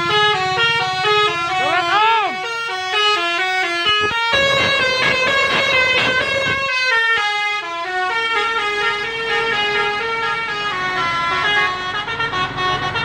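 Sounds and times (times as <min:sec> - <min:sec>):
multi-tone musical air horn: 0:00.0 - 0:13.0.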